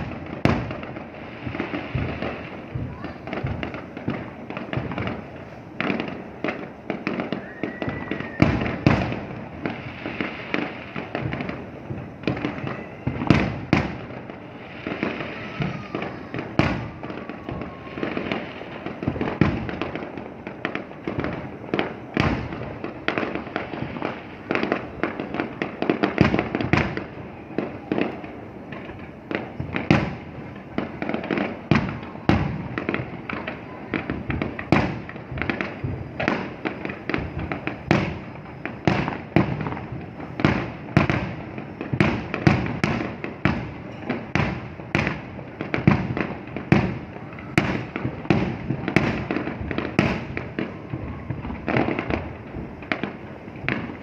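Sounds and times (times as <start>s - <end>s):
fireworks bangs: 0.0s - 54.0s
fireworks crackle: 0.0s - 54.0s.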